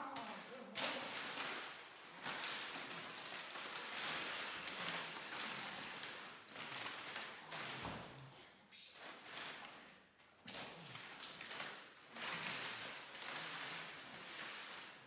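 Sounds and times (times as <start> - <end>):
plastic bottles crinkling: 0.0 - 15.0.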